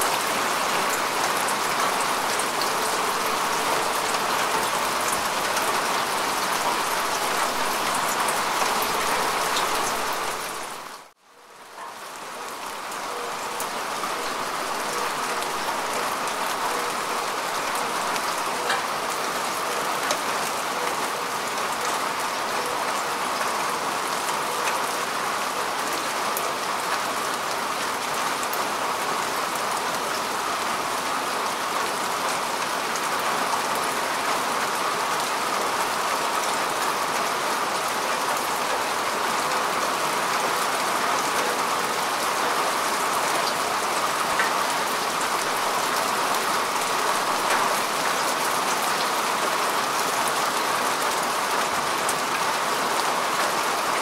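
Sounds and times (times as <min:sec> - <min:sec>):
rain falling on grass: 0:00.0 - 0:54.0.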